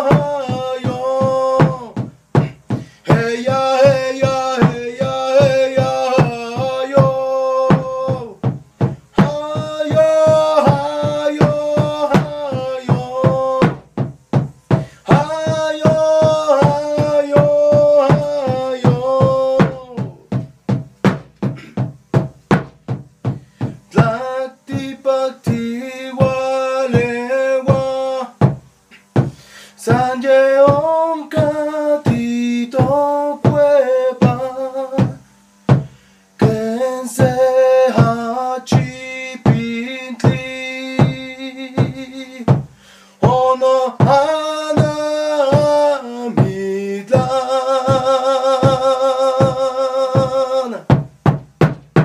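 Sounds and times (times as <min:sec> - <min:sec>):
man chanting: 0:00.0 - 0:02.1, 0:03.0 - 0:08.4, 0:09.0 - 0:13.9, 0:15.0 - 0:20.3, 0:23.8 - 0:28.4, 0:29.7 - 0:35.3, 0:36.4 - 0:42.5, 0:43.2 - 0:50.9
drum struck with a stick: 0:00.0 - 0:52.0.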